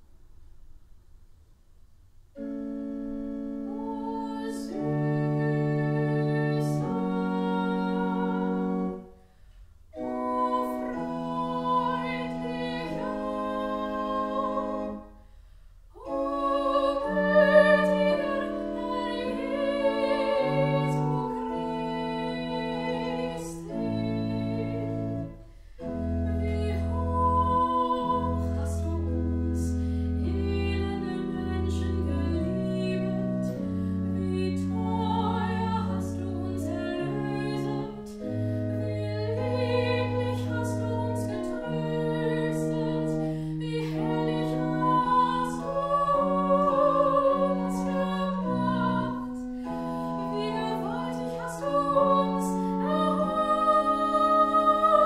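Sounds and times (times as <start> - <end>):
pipe organ sustained notes: 2.3 - 9.2, 9.8 - 55.0
soprano singing: 2.4 - 9.2, 9.9 - 15.2, 15.9 - 55.0.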